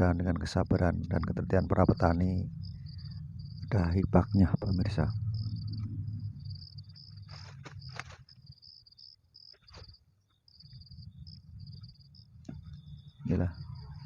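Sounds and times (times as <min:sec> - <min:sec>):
low rumble: 0:00.0 - 0:08.8, 0:10.6 - 0:14.0
insects trilling: 0:00.0 - 0:14.0.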